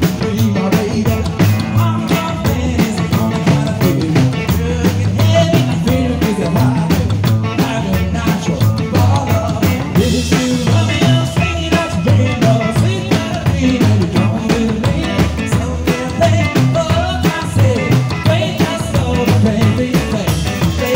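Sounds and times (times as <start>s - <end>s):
drum kit beat: 0.0s - 20.9s
man singing: 0.0s - 20.9s
upright double bass: 0.0s - 20.9s.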